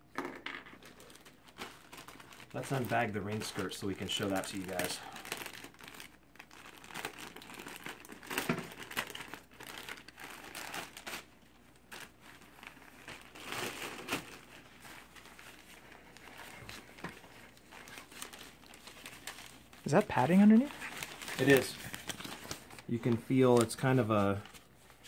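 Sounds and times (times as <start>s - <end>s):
plastic bag crinkling: 0.7s - 25.0s.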